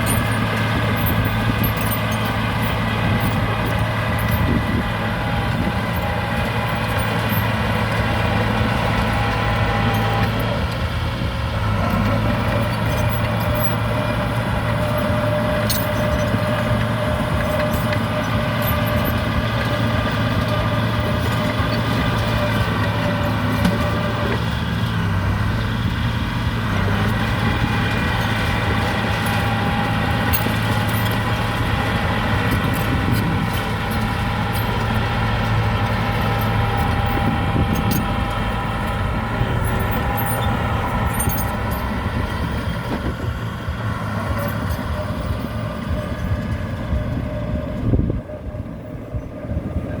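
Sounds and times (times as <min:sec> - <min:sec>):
engine whine: 0:00.0 - 0:50.0
heavy machine engine humming: 0:00.0 - 0:50.0.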